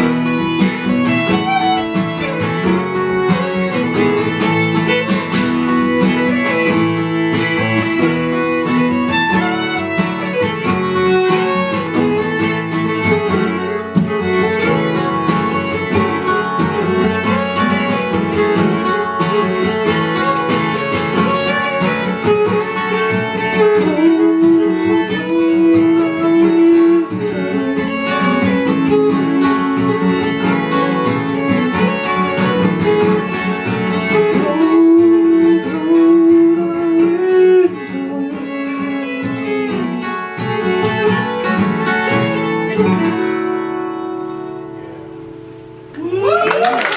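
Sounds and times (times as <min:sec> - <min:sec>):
bowed fiddle melody: 0:00.0 - 0:45.4
acoustic guitar strumming: 0:00.0 - 0:46.0.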